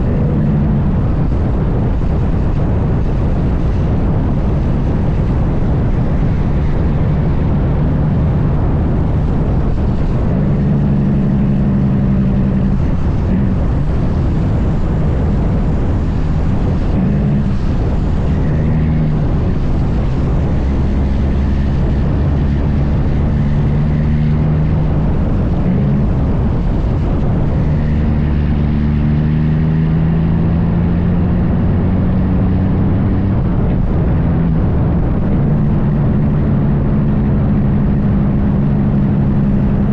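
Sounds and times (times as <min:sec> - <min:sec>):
diesel truck engine drone: 0:00.0 - 0:39.9
road rumble: 0:00.0 - 0:39.9.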